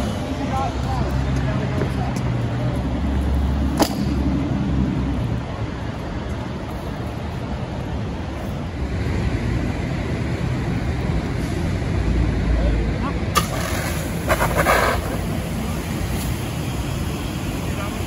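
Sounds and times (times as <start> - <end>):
rushing noise with low rumble: 0.0 - 18.0.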